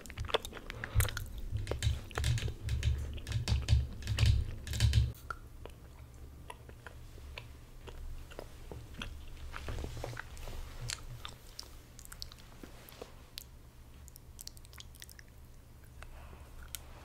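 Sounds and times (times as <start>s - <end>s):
chewing chocolate close up: 0.0s - 2.2s, 5.2s - 16.8s
steady low hum: 0.0s - 17.0s.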